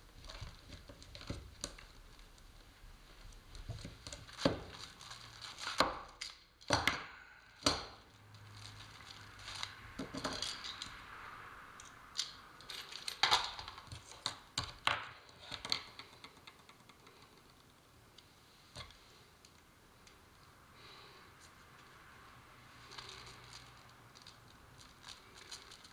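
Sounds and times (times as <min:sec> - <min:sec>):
crinkly rustling of material: 0:00.0 - 0:06.7, 0:08.0 - 0:16.2, 0:17.0 - 0:25.9.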